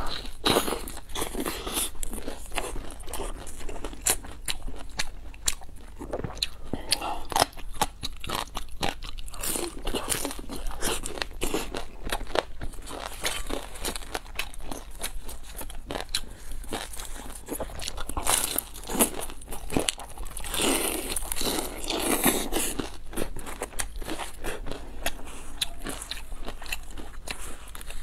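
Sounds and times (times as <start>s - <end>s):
crunchy chewing: 0.0s - 28.0s.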